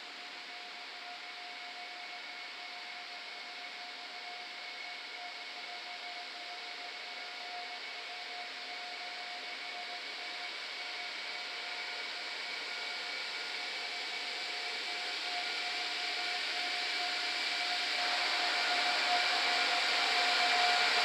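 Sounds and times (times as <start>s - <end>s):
electric locomotive hiss and whine: 0.0s - 21.0s.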